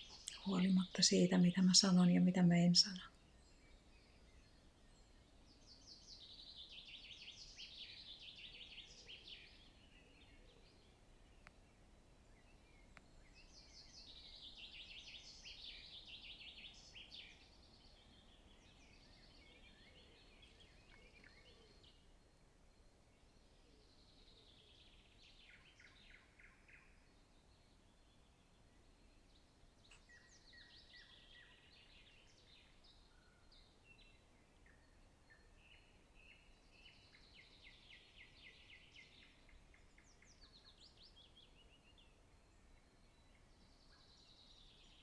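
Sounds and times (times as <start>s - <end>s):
background hiss: 0.0s - 45.0s.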